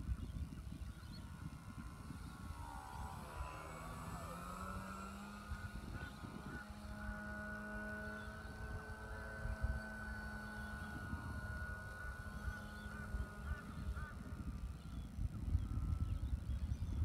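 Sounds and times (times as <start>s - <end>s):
model airplane propeller droning: 0.0s - 17.0s.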